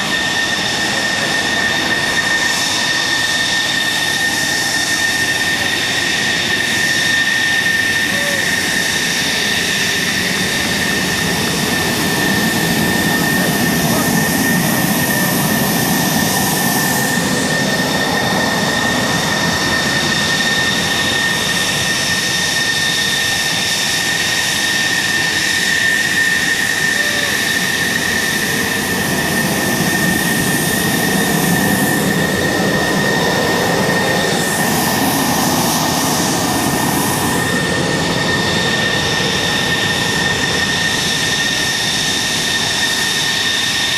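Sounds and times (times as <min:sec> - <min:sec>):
jet engine whine and rush: 0:00.0 - 0:43.9.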